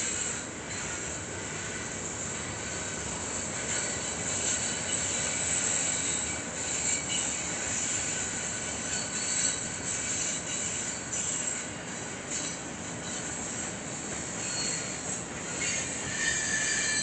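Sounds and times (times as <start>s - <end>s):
freight train rolling on rails: 0.0s - 17.0s
steel wheels squealing: 0.0s - 17.0s.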